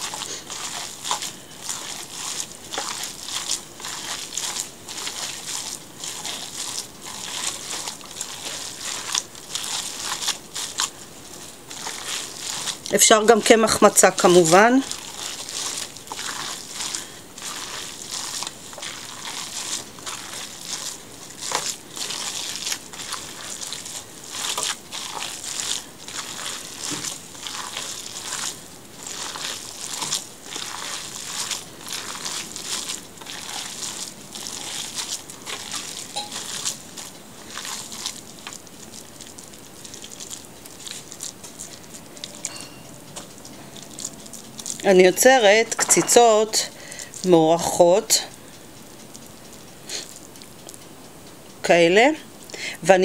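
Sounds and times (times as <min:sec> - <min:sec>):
hands kneading wet mixture: 0:00.0 - 0:50.8, 0:51.5 - 0:53.0.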